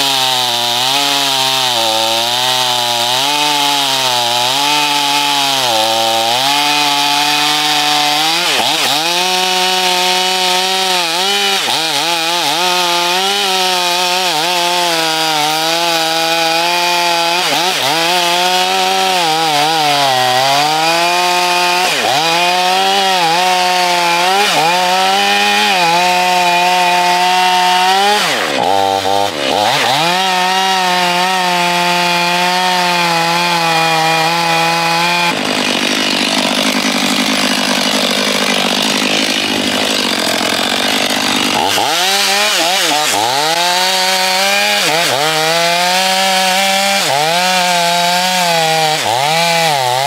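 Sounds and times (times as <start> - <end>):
chainsaw cutting a log: 0.0 - 50.0.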